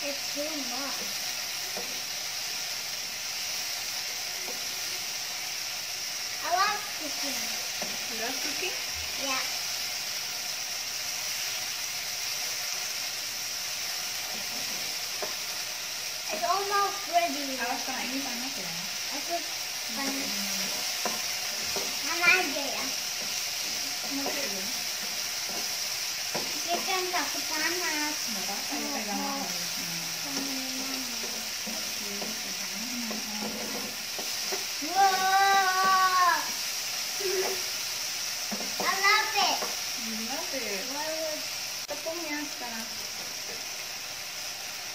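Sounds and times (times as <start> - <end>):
chicken sizzling in a frying pan: 0.0 - 44.9.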